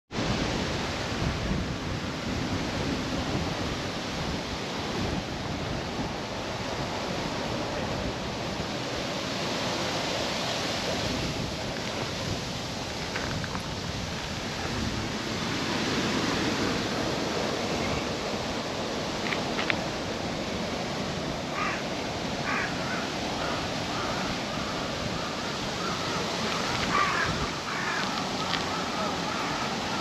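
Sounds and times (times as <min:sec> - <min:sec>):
wind on microphone: 0:00.1 - 0:30.0.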